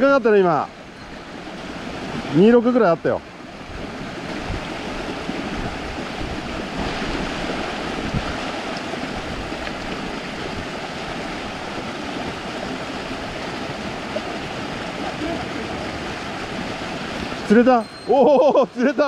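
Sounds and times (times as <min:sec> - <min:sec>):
mountain stream running: 0:00.0 - 0:19.0.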